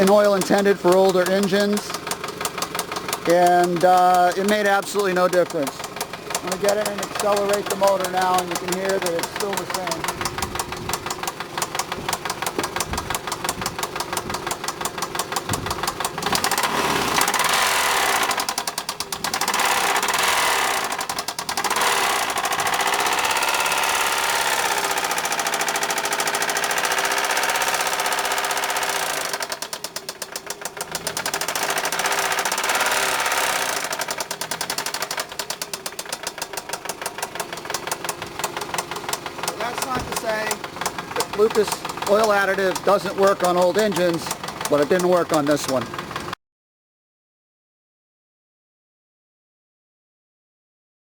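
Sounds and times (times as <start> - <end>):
car engine knocking: 0.0 - 46.4.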